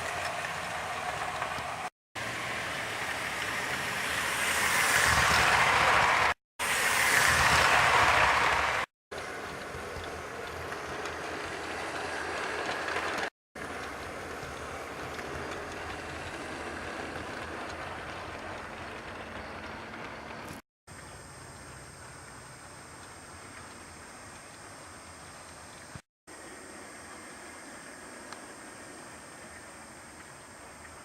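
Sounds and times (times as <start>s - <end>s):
model train running on track: 0.0s - 30.7s.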